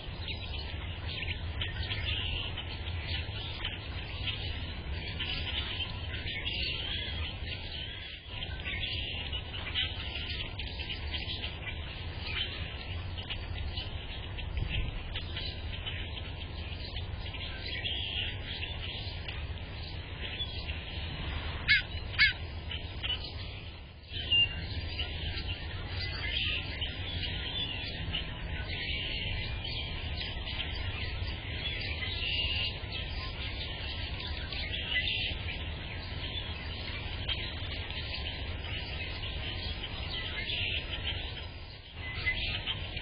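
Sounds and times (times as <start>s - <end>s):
low background rumble: 0.0s - 43.0s
small birds chirping: 0.0s - 43.0s.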